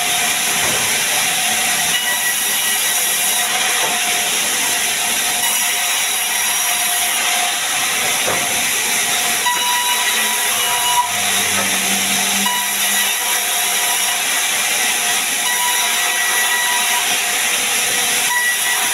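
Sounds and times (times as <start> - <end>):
band saw cutting wood: 0.0 - 18.9.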